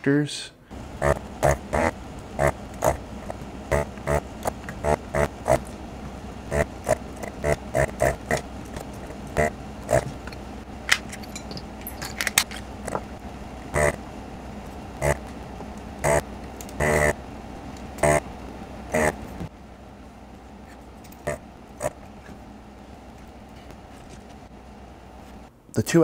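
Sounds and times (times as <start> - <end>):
desoldering pump buzzing bursts: 0.7 - 11.0, 12.6 - 23.5.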